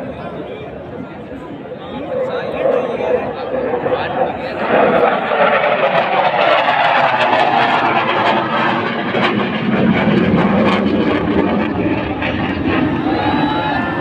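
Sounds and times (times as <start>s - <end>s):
fighter jet passing overhead: 0.0s - 14.0s.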